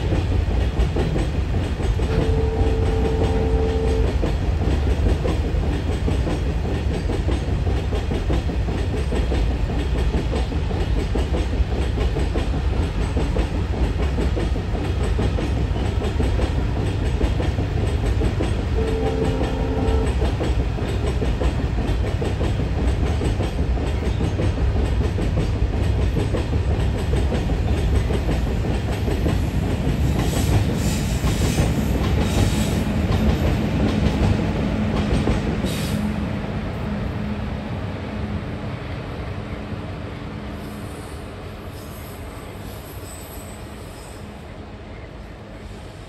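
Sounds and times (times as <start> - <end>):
train wagons rumbling and clattering: 0.0 - 46.0.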